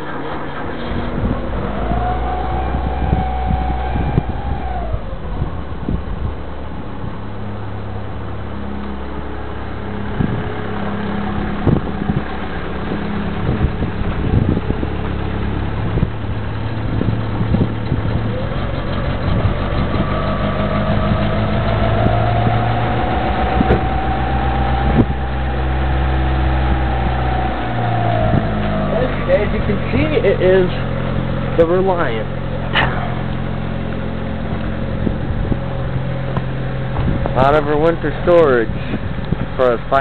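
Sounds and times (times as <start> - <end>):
car engine idling: 0.0 - 40.0
engine knocks and clicks: 0.0 - 40.0
thin high whine: 0.8 - 13.9, 19.2 - 38.7.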